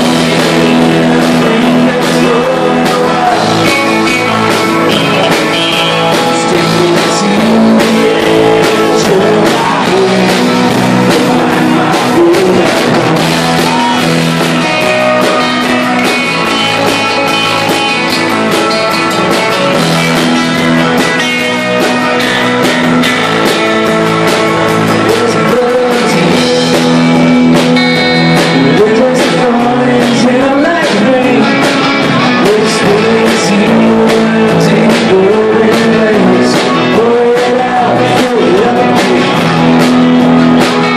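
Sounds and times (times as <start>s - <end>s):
bass guitar: 0.0s - 40.9s
drums: 0.0s - 40.9s
electric guitars: 0.0s - 40.9s
man singing: 0.0s - 40.9s.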